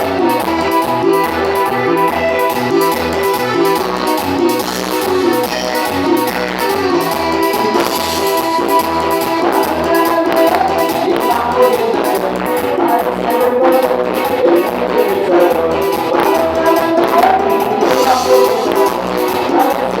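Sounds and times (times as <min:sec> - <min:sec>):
drums beating: 0:00.0 - 0:20.0
guitar: 0:00.0 - 0:20.0
melodic lead line: 0:00.0 - 0:20.0.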